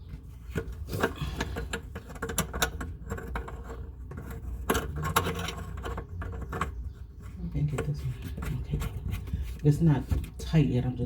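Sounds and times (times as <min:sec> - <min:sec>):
small clicks and scrapes of nuts: 0:00.0 - 0:09.7.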